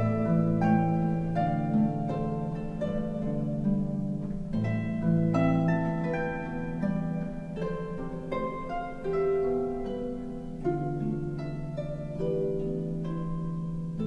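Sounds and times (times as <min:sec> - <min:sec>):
low sustained strings: 0:00.0 - 0:14.0
plucked harp notes: 0:00.0 - 0:14.0.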